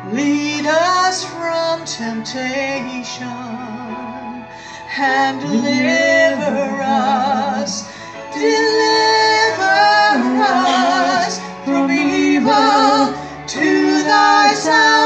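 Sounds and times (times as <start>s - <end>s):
two people singing: 0.0s - 15.0s.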